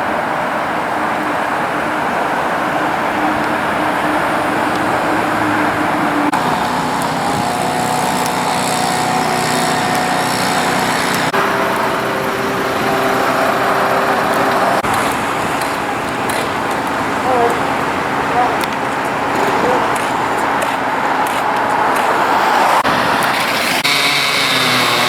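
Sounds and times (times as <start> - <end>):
engine-driven machinery running: 0.3 - 25.0.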